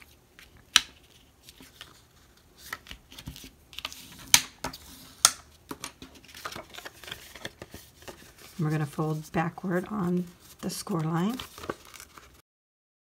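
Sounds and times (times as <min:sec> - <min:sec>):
paper rustling: 0:00.0 - 0:12.4.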